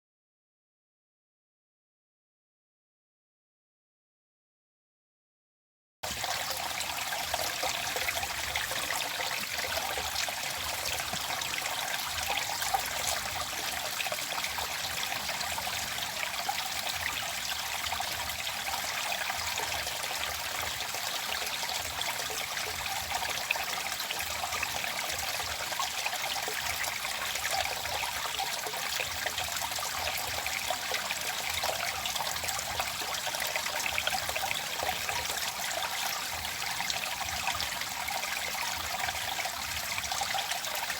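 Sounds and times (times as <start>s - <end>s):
stream water trickling and splashing: 6.0s - 40.9s.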